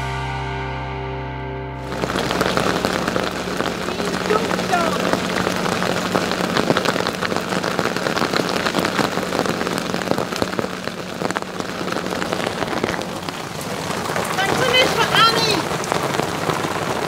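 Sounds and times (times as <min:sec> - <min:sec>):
rain drops crackling on a deck: 0:01.8 - 0:17.0.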